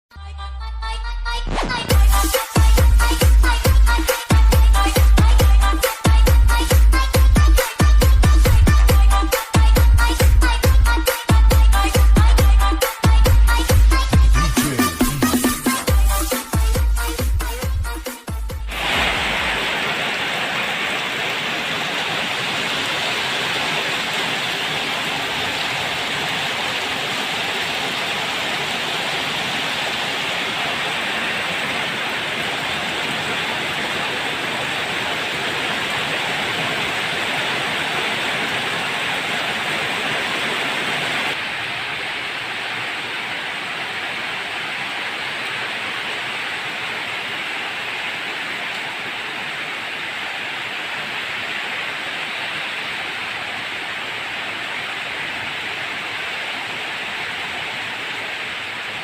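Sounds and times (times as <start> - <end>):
heavy rain and water rushing: 1.6 - 59.0.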